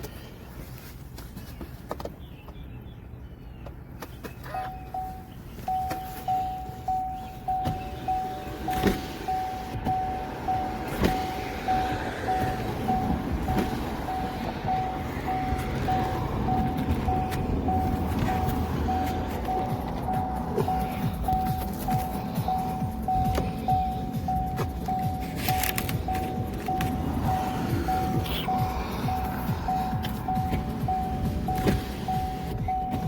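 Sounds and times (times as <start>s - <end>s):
electronic beep: 4.5s - 33.0s.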